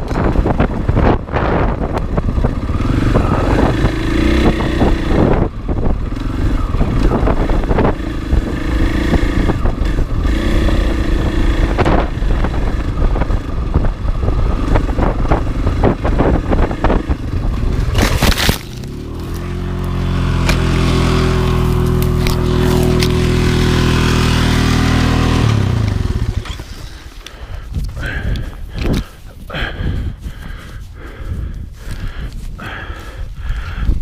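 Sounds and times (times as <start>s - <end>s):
dirt bike engine revving: 0.2s - 30.7s.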